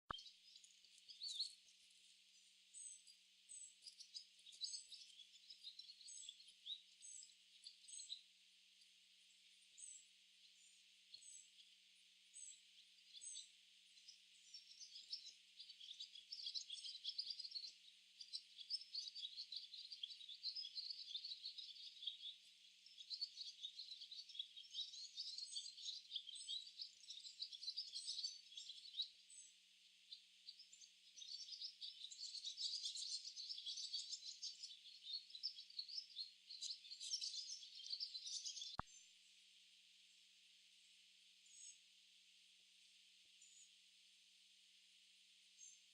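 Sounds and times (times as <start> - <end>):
swallows chirping and twittering: 0.1 - 39.1, 41.4 - 41.9, 43.4 - 43.8.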